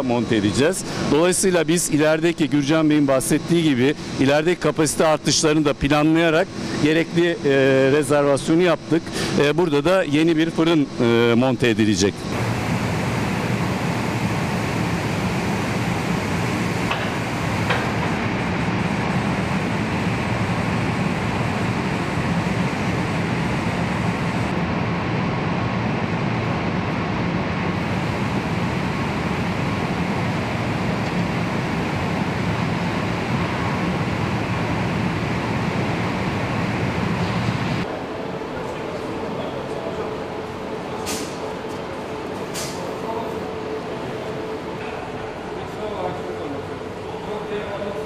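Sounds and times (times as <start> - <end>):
conveyor machinery rushing and humming: 0.0 - 48.0.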